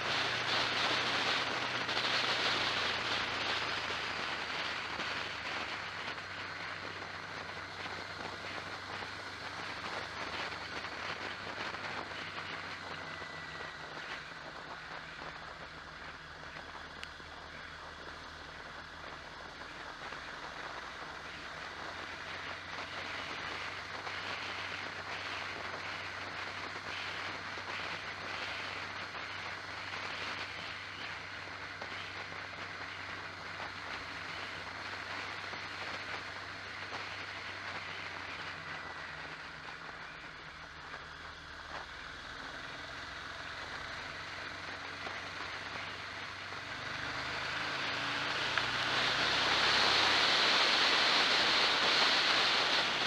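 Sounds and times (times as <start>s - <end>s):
road noise: 0.0s - 53.0s
vehicle engine hum: 0.0s - 53.0s.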